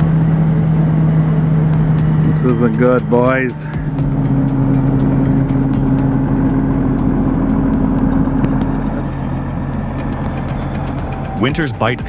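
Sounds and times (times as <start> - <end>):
heavy machine engine running: 0.1 - 12.0.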